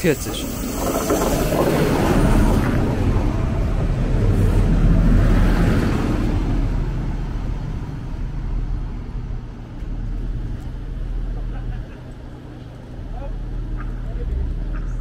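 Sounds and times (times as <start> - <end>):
train engine and wheel rumble: 0.0 - 15.0.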